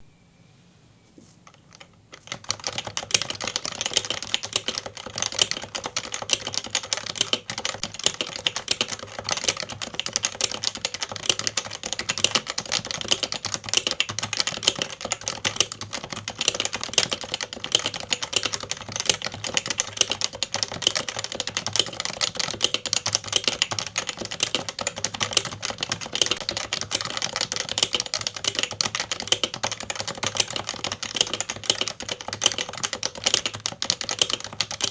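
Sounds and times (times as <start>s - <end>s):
fast keyboard typing: 1.5s - 34.9s.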